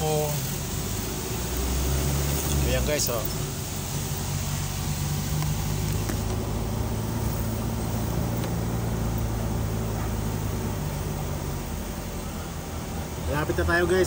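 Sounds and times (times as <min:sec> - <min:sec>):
car engine hum inside cabin: 0:00.0 - 0:14.0
road rush: 0:00.0 - 0:14.0.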